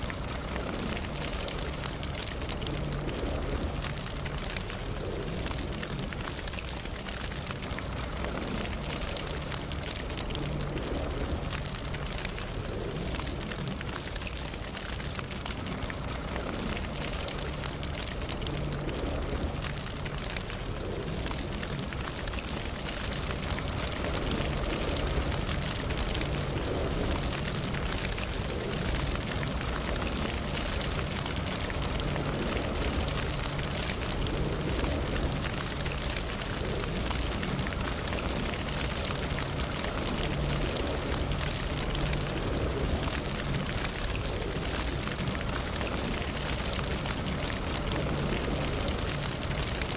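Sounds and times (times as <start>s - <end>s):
campfire wood crackling: 0.0s - 49.9s
rush of flame: 0.1s - 49.9s.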